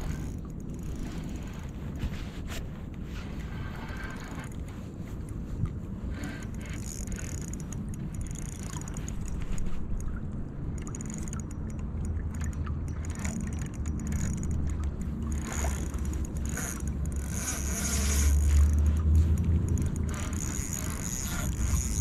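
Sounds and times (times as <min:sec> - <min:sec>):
river water rumbling: 0:00.0 - 0:22.0.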